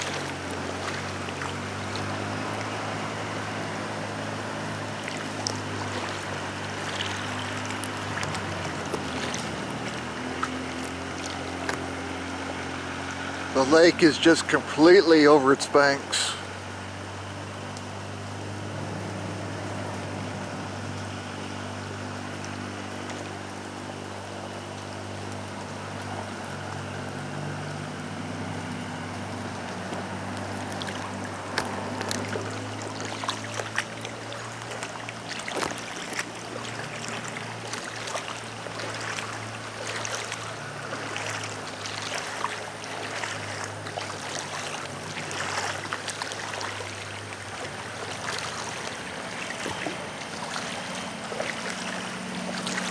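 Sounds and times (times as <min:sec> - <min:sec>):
low motor-like hum: 0:00.0 - 0:52.9
water splashing and trickling: 0:00.0 - 0:52.9.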